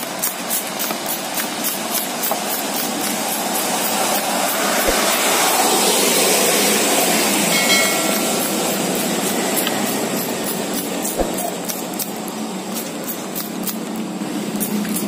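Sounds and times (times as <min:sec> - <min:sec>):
spray bottle hissing: 0:00.2 - 0:13.9.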